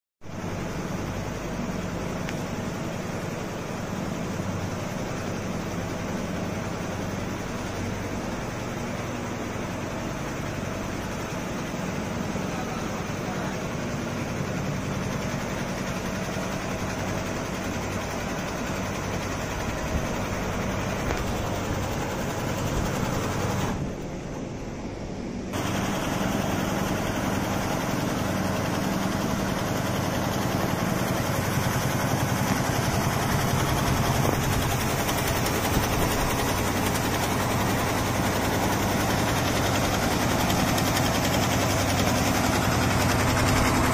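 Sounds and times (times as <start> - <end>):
embroidery machine hum and clatter: 0.3 - 43.9.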